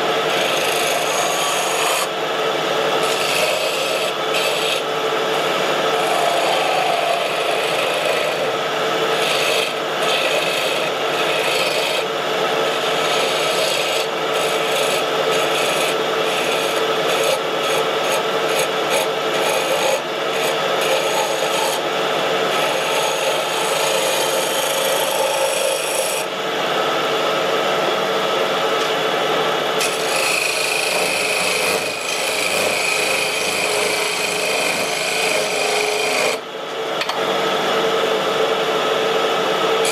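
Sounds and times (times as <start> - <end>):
tool scraping spinning wood: 0.0 - 26.3, 29.6 - 36.4
wood lathe hum: 0.0 - 39.9.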